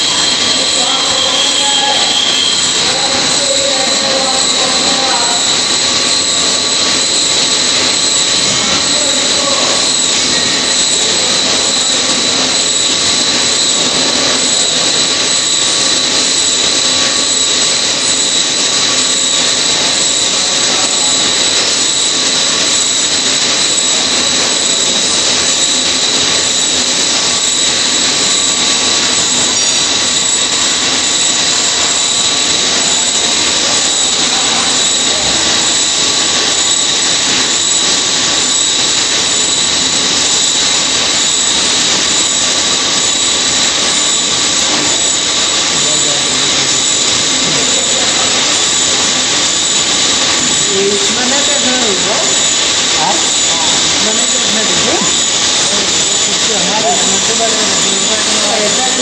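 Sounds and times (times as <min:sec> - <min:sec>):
lathe cutting metal with whine: 0:00.0 - 0:59.0.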